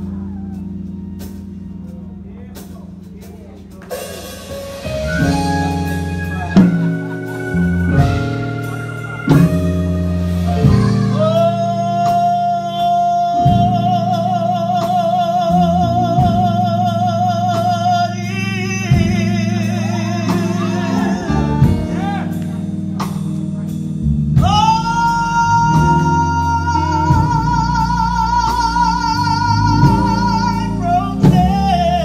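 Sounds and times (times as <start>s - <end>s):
keyboard and bass accompaniment: 0.0s - 32.0s
person singing gospel: 3.9s - 23.2s, 24.4s - 32.0s.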